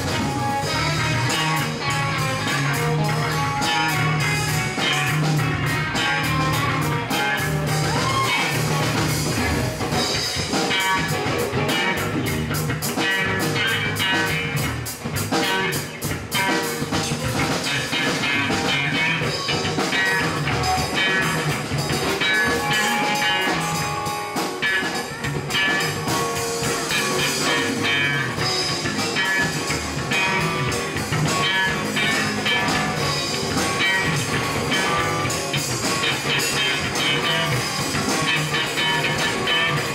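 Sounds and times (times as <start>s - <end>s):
drum beat: 0.0s - 39.9s
electric guitars: 0.0s - 39.9s.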